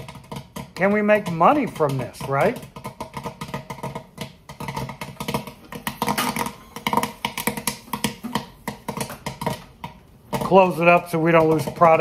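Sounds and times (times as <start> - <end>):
popcorn popping in oil: 0.0 - 12.0.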